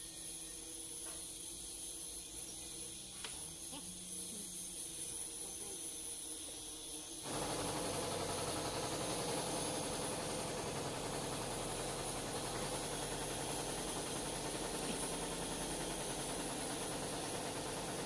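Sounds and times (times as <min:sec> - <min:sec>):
machine hiss and hum: 0:00.0 - 0:18.0.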